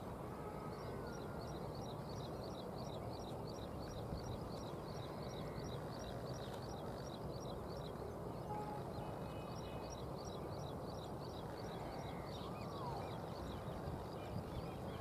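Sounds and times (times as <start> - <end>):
low background rush: 0.0 - 15.0.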